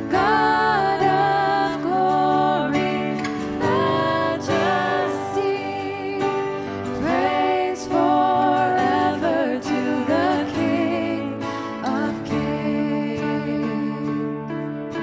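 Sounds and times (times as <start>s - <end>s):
person singing worship song: 0.0s - 14.7s
acoustic guitar: 0.0s - 15.0s.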